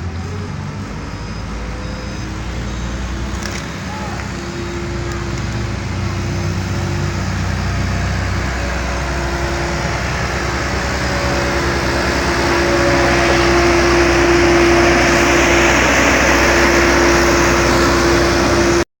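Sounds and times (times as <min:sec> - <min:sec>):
heavy machinery engines whining: 0:00.0 - 0:18.9.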